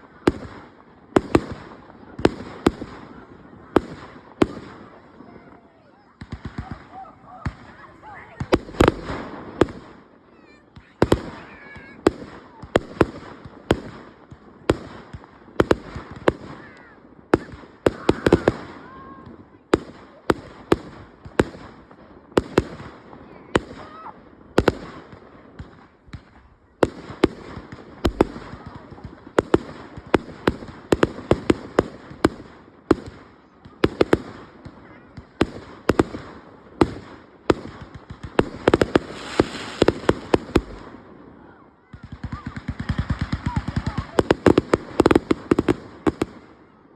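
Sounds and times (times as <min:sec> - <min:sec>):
fireworks bangs: 0:00.0 - 0:46.9
fireworks crackling: 0:00.0 - 0:46.9.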